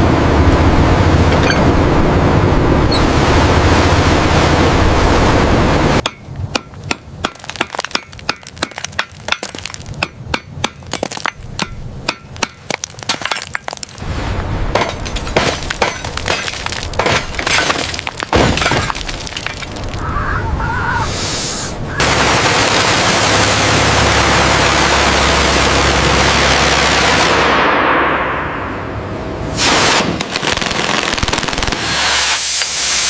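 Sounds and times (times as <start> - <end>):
rumbling noise: 0.0 - 32.0.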